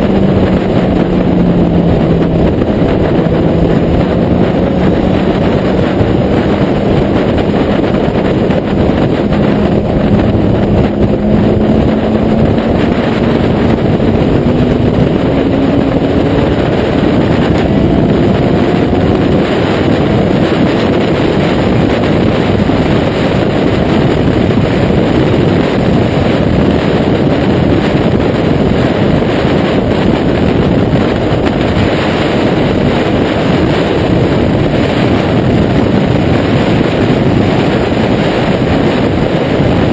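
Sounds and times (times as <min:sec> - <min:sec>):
broad steady rush: 0:00.0 - 0:39.9
motorcycle engine running: 0:00.0 - 0:39.9.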